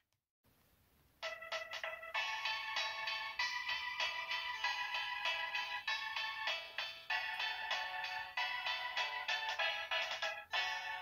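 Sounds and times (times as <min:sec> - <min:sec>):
phone ringtone melody: 0:01.2 - 0:11.0.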